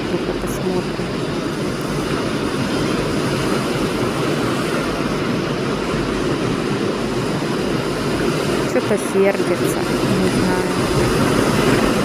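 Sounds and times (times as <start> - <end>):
heavy surf rushing: 0.0 - 12.0
wind buffeting microphone: 0.0 - 12.0.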